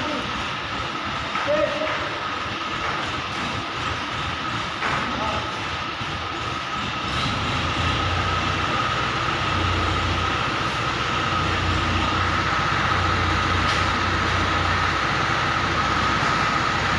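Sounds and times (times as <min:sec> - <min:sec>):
crane engine rumbling: 0:00.0 - 0:16.9
hydraulics whining: 0:00.0 - 0:16.9.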